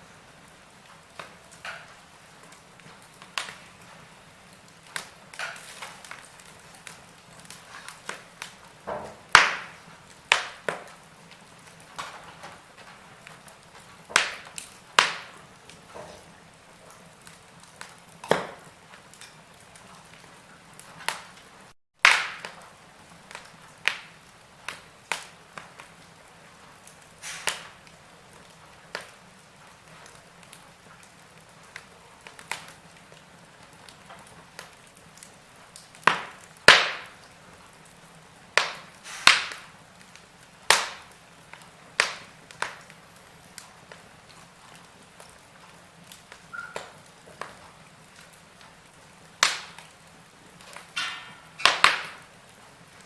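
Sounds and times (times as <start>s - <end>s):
faint steady hiss: 0.0s - 53.0s
wood fire crackling and popping: 0.0s - 53.0s.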